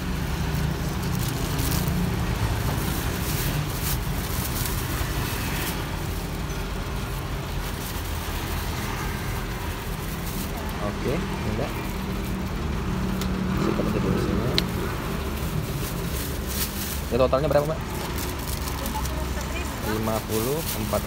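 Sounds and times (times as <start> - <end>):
plastic bag crinkling: 0.0 - 13.6, 14.3 - 21.0
road traffic rumble: 0.0 - 21.0.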